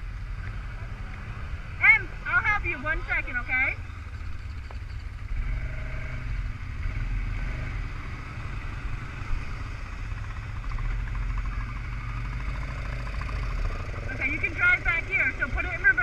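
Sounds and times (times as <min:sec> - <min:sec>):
atv engines running: 0:00.0 - 0:16.0.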